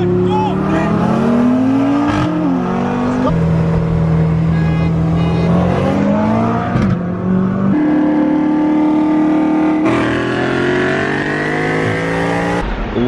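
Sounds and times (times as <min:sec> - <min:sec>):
car engine accelerating hard: 0:00.0 - 0:12.6.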